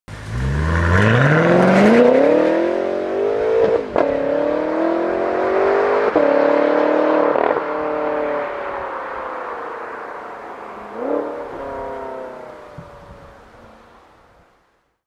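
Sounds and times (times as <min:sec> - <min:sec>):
car engine accelerating hard: 0:00.1 - 0:13.4.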